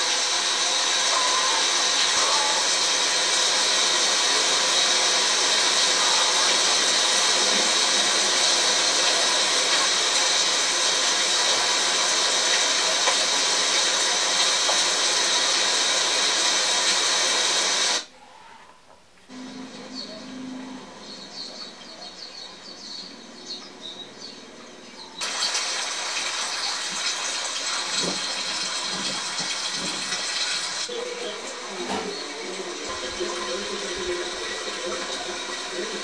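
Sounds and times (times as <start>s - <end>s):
heavy rain pouring: 0.0s - 18.1s, 25.2s - 36.0s.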